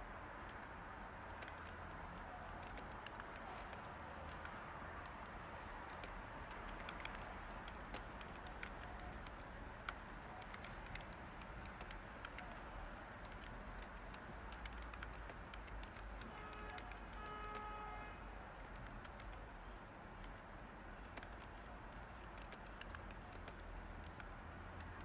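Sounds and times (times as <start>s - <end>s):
keyboard typing: 0.4s - 17.8s, 18.5s - 19.5s, 20.1s - 25.0s.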